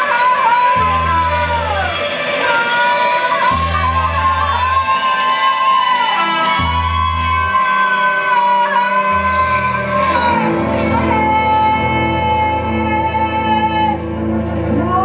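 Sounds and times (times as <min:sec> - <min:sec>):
trumpet: 0:00.0 - 0:14.0
bass guitar: 0:00.0 - 0:15.0
electric guitar: 0:00.0 - 0:15.0.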